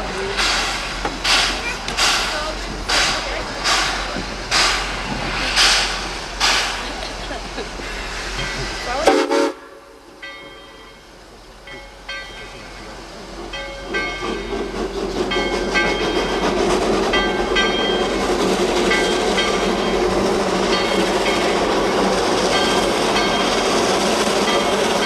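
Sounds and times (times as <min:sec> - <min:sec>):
train wheels clattering on rails: 0:00.0 - 0:09.3, 0:10.1 - 0:25.0.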